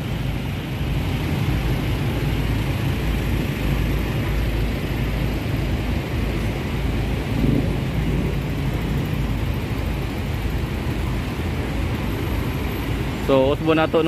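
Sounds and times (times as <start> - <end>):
minibus engine rumble: 0.0 - 14.0
road traffic noise: 0.0 - 14.0.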